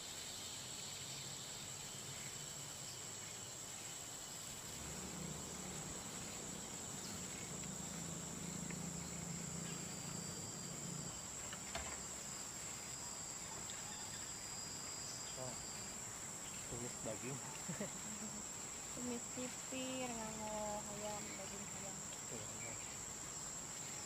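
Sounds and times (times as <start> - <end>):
insects trilling: 0.0 - 24.0
faint low hum: 4.5 - 24.0.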